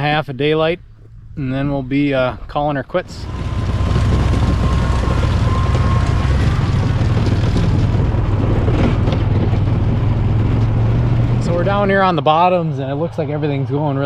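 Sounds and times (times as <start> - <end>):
constant rushing noise: 0.0 - 14.0
vehicle engine humming: 0.0 - 14.0.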